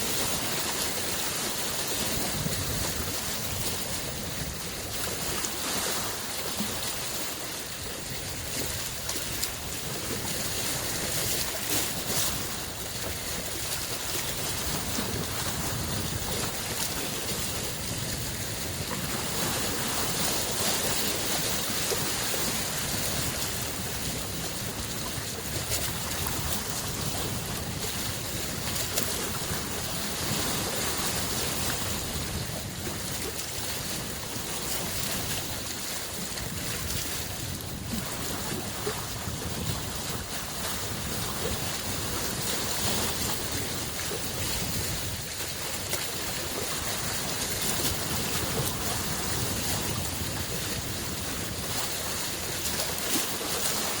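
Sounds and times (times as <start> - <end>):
lake waves washing against shore: 0.0 - 54.0.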